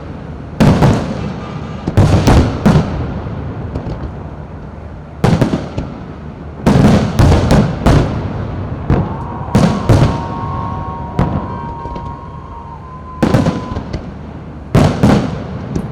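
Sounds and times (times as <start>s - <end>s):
fireworks exploding: 0.6s - 4.4s, 5.2s - 15.9s.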